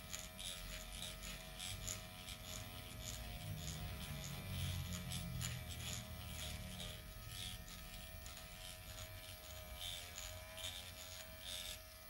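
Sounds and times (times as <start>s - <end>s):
microneedling pen buzzing: 0.0s - 12.0s.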